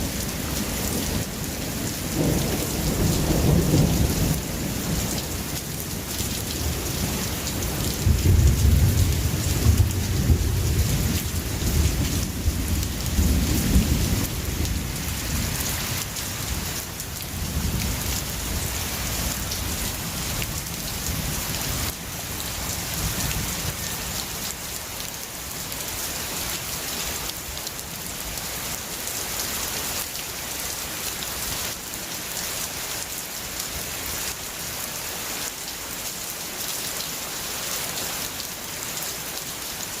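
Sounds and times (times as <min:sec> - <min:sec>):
heavy rain: 0:00.0 - 0:40.0.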